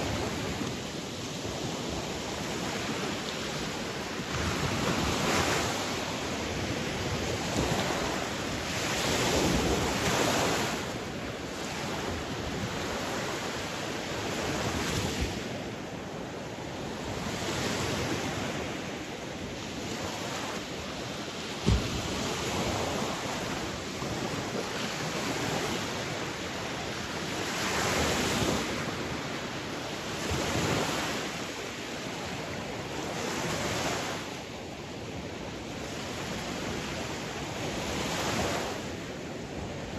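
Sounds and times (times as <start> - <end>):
sea waves breaking on shore: 0.0 - 39.9
wind noise on microphone: 0.0 - 39.9.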